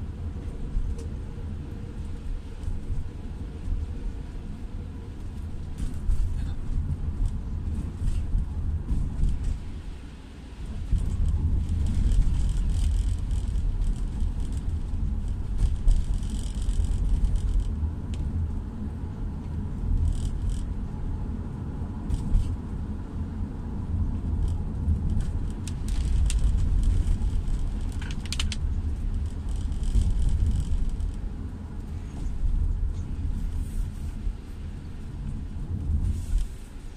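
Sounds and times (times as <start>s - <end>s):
car driving on wet road: 0.0s - 36.9s.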